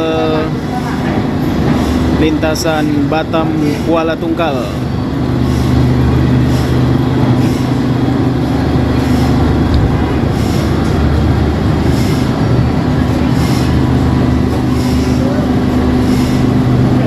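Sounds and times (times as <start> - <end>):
ferry engines humming: 0.0 - 17.0.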